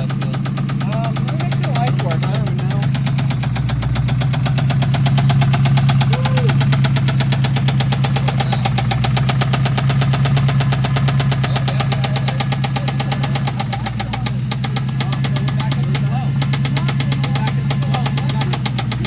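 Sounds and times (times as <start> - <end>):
engine running with rapid knocking: 0.0 - 19.0.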